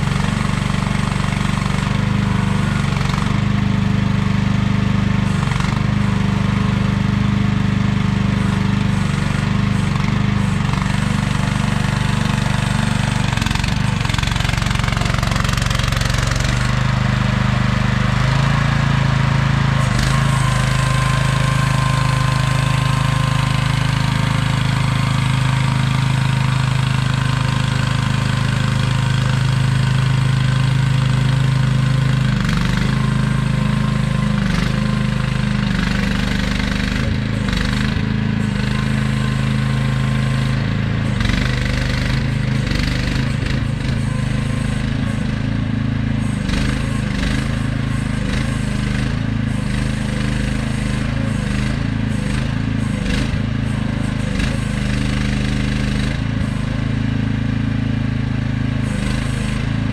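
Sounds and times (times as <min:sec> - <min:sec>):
mini excavator engine running: 0:00.0 - 0:59.9.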